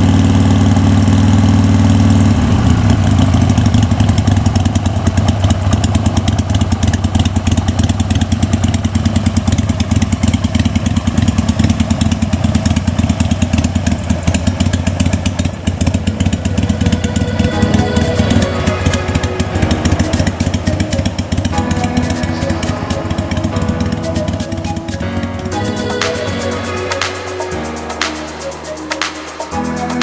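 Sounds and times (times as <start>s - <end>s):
motorcycle engine running: 0.0s - 25.5s.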